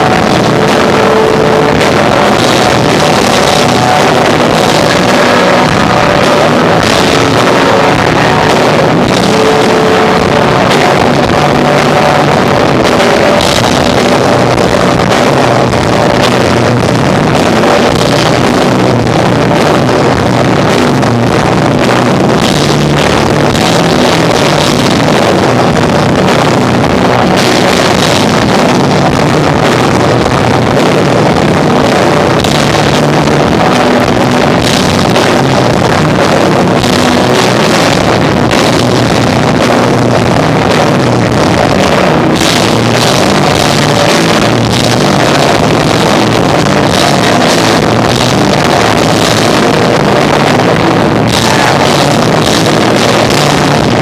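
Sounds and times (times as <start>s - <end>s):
distorted live rock band: 0.0s - 54.0s.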